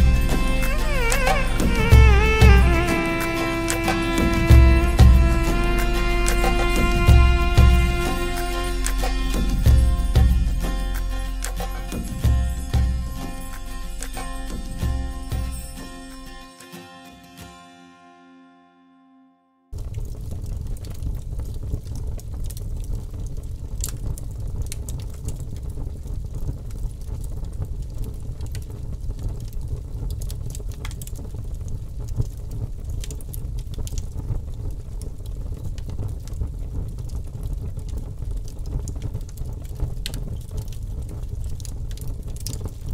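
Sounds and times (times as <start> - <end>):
bonfire crackling and popping: 0.0 - 16.8, 19.7 - 42.9.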